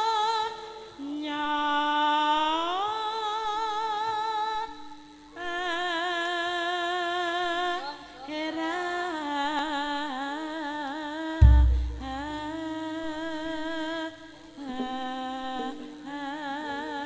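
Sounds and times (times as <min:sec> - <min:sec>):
woman singing long held notes: 0:00.0 - 0:17.0.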